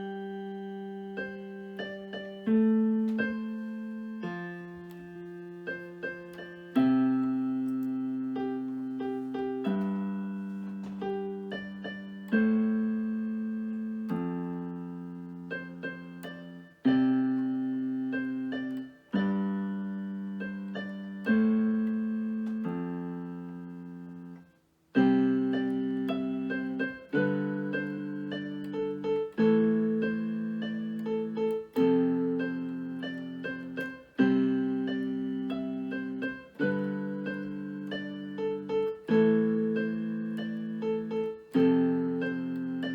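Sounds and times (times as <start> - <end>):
slow piano chords: 0.0 - 42.9.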